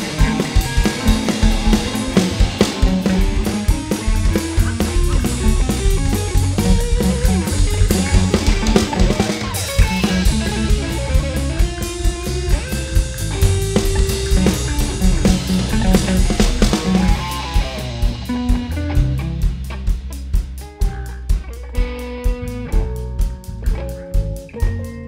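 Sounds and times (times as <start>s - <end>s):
bass: 0.0s - 25.0s
drum kit beat: 0.0s - 25.0s
guitar: 0.0s - 25.0s.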